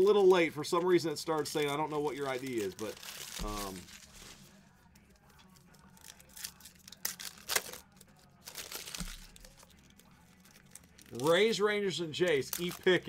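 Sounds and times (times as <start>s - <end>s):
wrappers tearing and crinkling: 0.2s - 13.0s.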